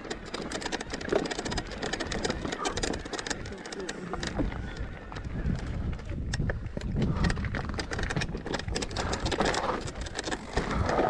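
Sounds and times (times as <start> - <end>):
bike tyres rolling on gravel: 0.0 - 11.0
loose stones crunching: 0.0 - 11.0
small clicks and rattles: 0.0 - 11.0.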